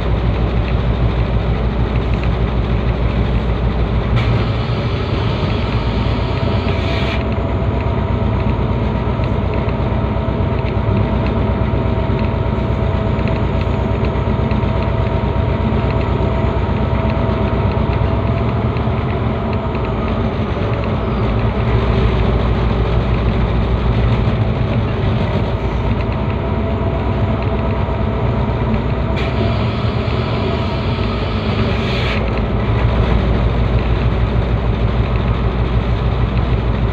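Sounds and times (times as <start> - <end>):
diesel locomotive engine drone: 0.0 - 36.9.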